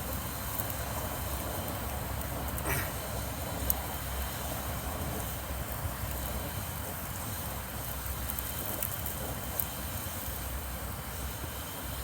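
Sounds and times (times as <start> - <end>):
wood fire crackles: 0.0 - 12.0.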